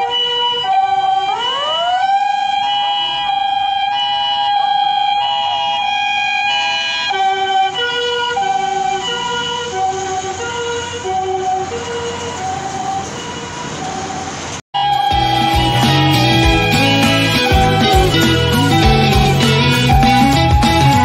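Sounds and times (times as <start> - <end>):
ambulance siren: 0.0 - 21.0.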